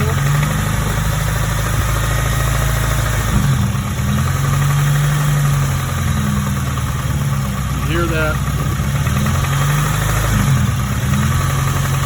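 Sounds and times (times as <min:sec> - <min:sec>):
car engine running above idle: 0:00.0 - 0:12.0
low engine knocking: 0:00.0 - 0:12.0.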